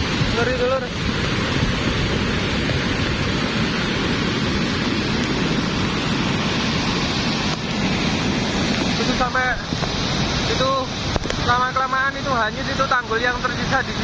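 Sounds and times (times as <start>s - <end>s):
roar of churning muddy water: 0.0s - 11.8s.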